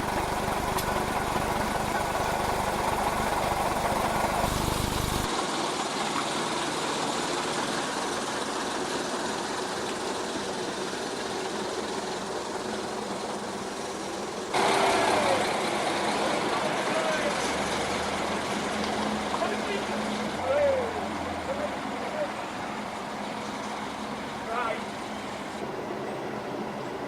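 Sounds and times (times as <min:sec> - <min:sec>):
heavy vehicle engines idling: 0:00.0 - 0:27.0.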